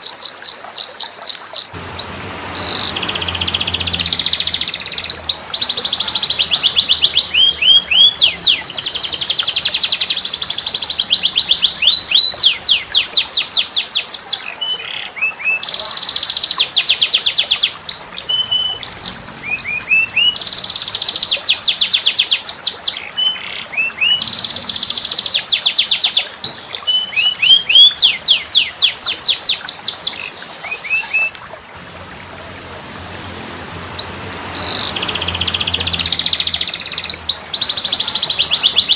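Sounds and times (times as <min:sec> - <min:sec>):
songbird trilling: 0:00.0 - 0:31.3, 0:34.0 - 0:38.9
bird chirps: 0:00.0 - 0:31.4, 0:34.0 - 0:38.9.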